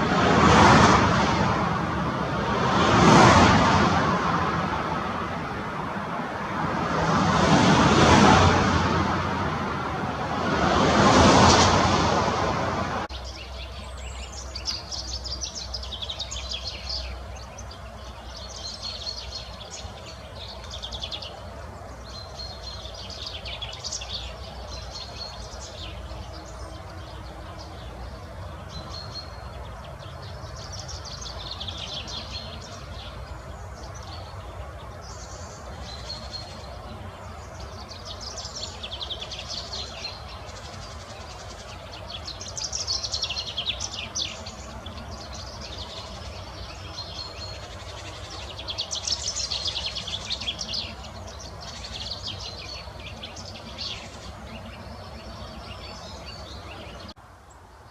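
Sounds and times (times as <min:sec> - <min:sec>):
songbirds singing: 0:00.0 - 0:57.9
low outdoor background noise: 0:08.9 - 0:57.9.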